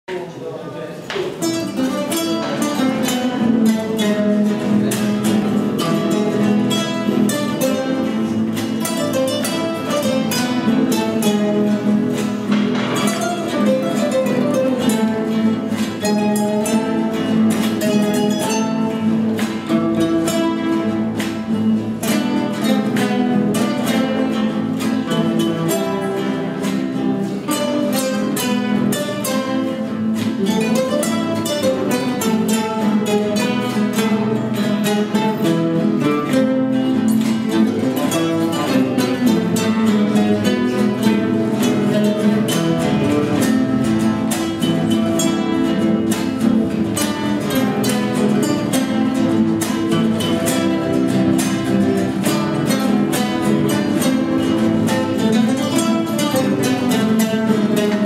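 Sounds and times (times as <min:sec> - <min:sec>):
classical guitars playing: 0:00.1 - 0:58.0.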